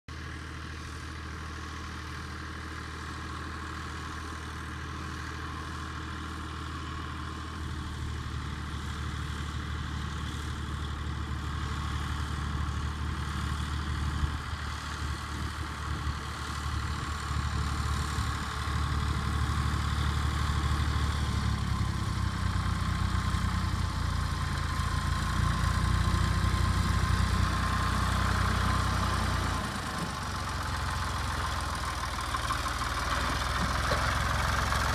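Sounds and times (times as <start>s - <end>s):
tractor engine hum: 0.1s - 34.9s
mower high whine: 0.2s - 34.9s.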